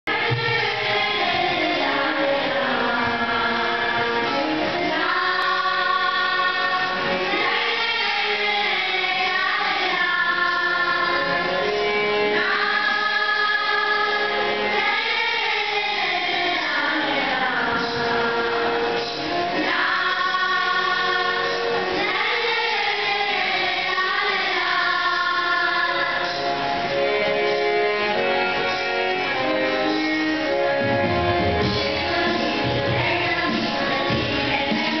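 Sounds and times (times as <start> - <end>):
children's choir singing: 0.1 - 35.0.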